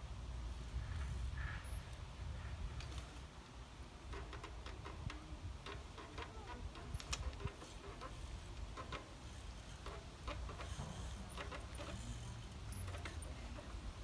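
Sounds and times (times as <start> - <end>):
bike freewheel hub clicking: 0.8 - 14.0.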